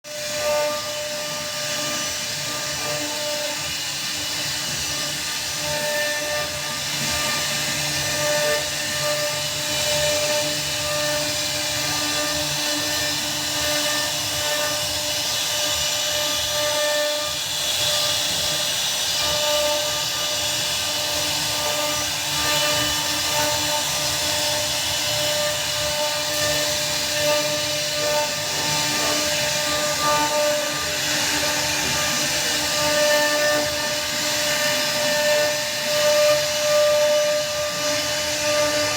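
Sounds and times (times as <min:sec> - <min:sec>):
router spindle whine: 0:00.1 - 0:38.9
wood cutting hiss: 0:00.1 - 0:38.9.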